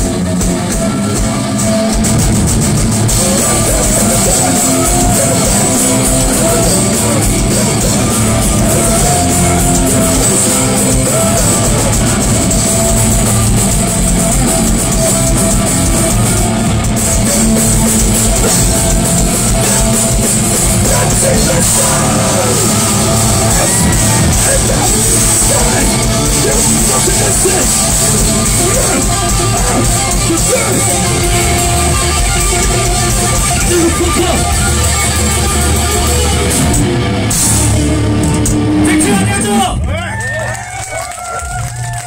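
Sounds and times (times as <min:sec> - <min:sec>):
electric guitars: 0:00.0 - 0:42.0
pounding drum kit: 0:00.0 - 0:42.0.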